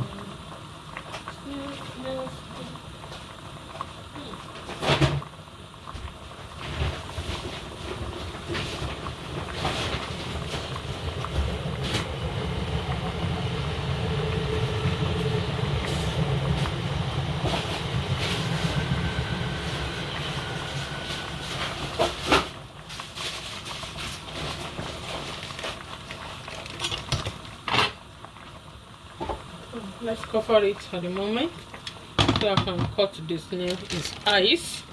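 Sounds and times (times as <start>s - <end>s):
soup boiling in pot: 0.0s - 34.9s.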